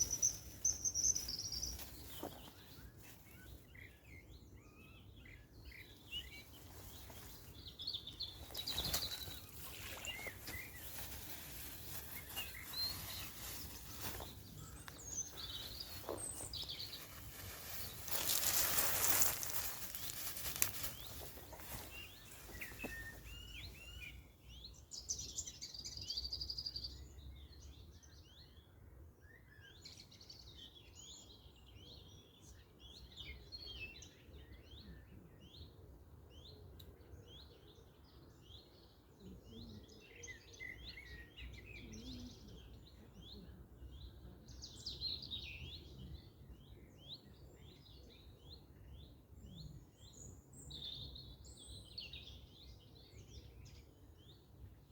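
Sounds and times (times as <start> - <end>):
songbirds chirping and singing: 0.0 - 54.9.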